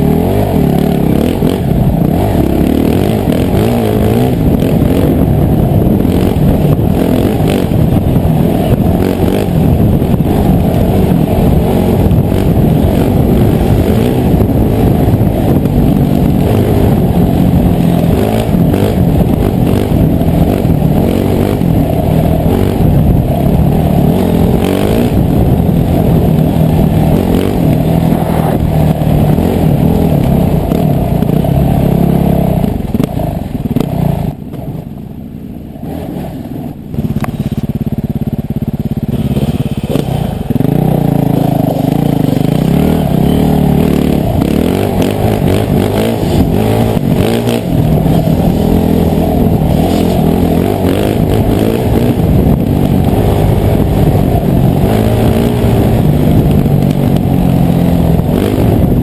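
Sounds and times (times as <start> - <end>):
dirt bike engine revving: 0.0 - 34.8, 35.7 - 59.0.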